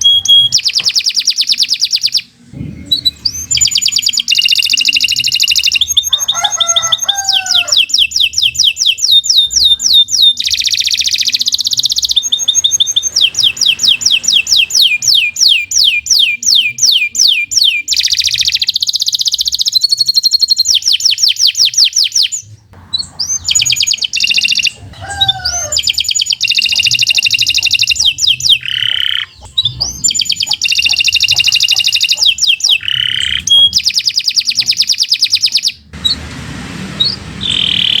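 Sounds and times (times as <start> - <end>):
canary singing trills and whistles: 0.0 - 36.2, 37.0 - 38.0.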